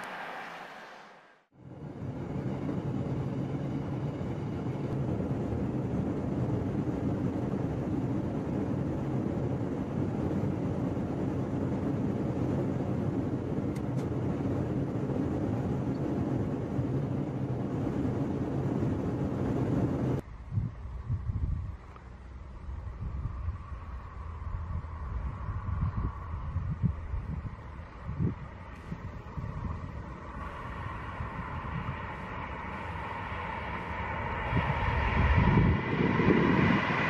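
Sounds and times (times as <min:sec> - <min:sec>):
train carriage low rumble: 0:00.0 - 0:37.0.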